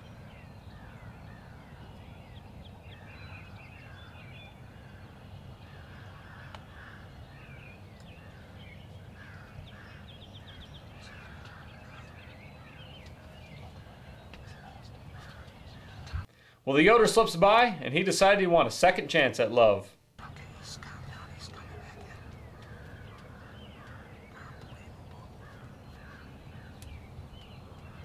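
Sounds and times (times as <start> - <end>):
flock of birds calling: 0.0 - 16.3, 20.4 - 28.0.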